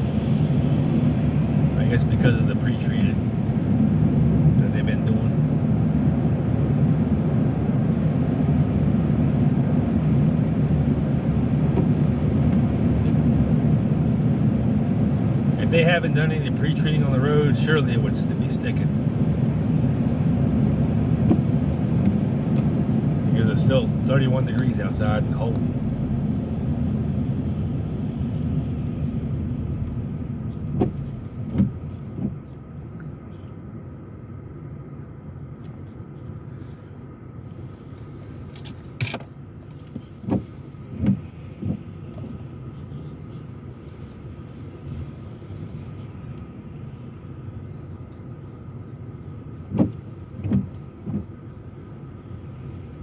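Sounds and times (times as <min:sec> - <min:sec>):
car tyres on wet road: 0:00.0 - 0:53.0.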